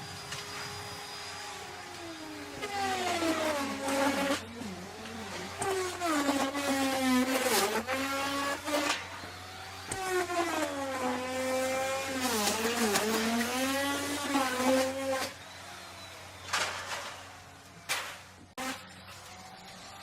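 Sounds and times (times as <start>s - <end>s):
electric router cutting wood: 0.0s - 17.9s.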